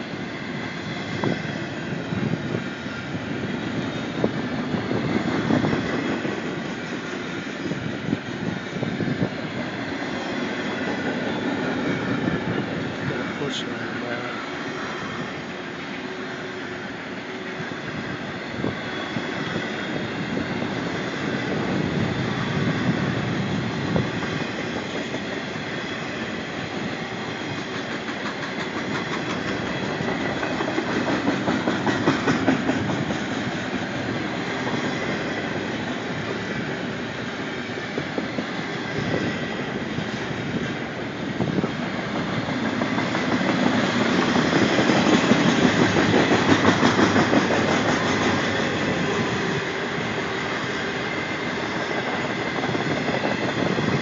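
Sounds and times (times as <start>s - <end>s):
freight train wheels clacking: 0.0s - 54.0s.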